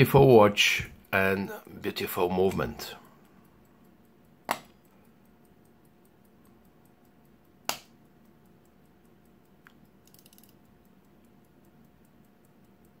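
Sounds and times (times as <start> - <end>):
watch ticking: 0.0 - 13.0.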